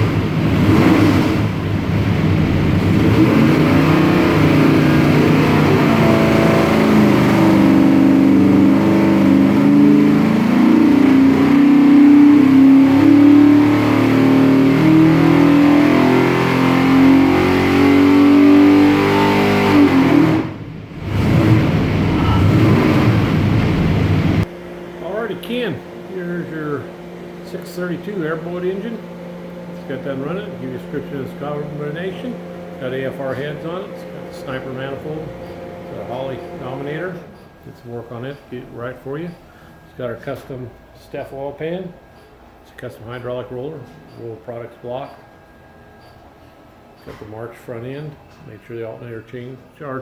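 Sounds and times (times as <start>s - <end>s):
vee eight engine revving: 0.0s - 50.0s.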